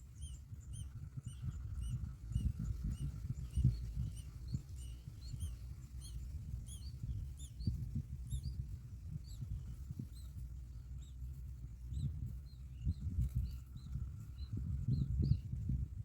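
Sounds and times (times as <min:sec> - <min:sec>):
baby birds cheeping: 0:00.0 - 0:15.7.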